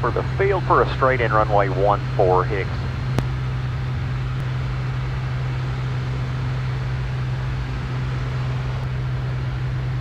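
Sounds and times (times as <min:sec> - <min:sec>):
aircraft engine and propeller drone: 0:00.0 - 0:10.0.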